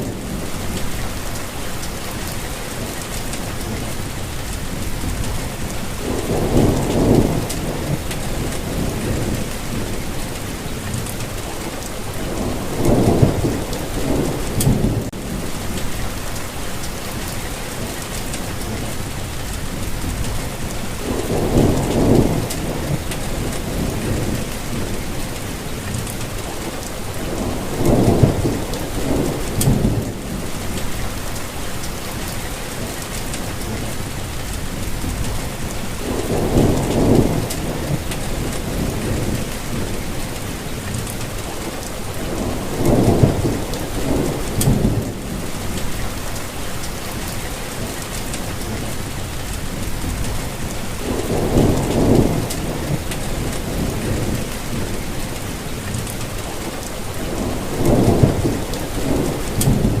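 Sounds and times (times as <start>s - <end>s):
distant thunder rumbling: 0.0s - 60.0s
rain hissing: 0.0s - 60.0s.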